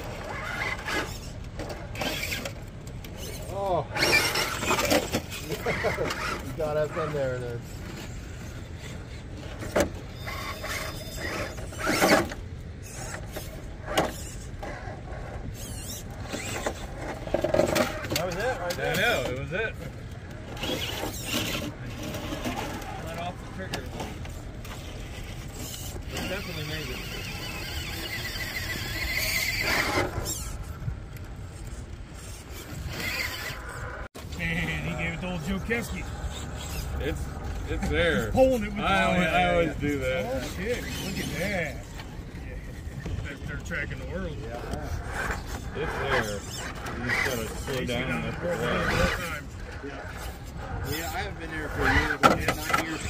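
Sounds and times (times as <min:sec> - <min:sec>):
rc car motor whining: 0:00.0 - 0:53.0.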